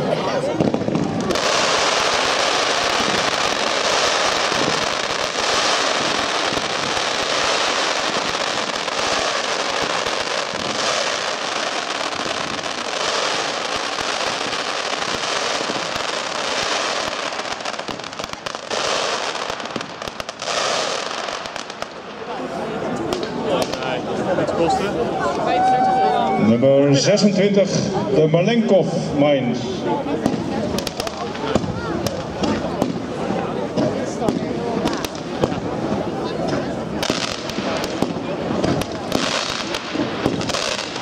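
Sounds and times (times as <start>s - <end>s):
firework crackling and popping: 0.0s - 24.2s, 30.1s - 41.0s.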